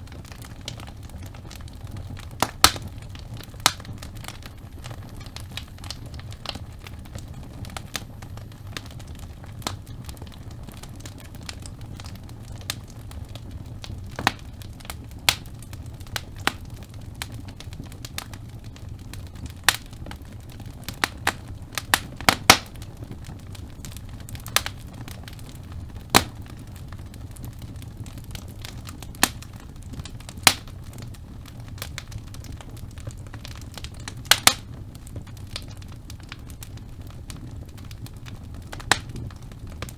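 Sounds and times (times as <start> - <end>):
burning logs crackling and popping: 0.0 - 39.9
fire low rumble: 0.0 - 39.9.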